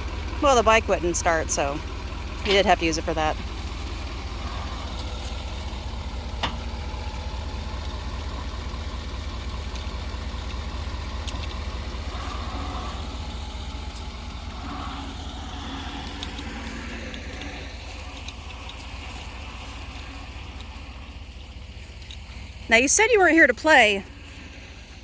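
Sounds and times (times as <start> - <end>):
engine idling with low rumble: 0.0 - 25.0.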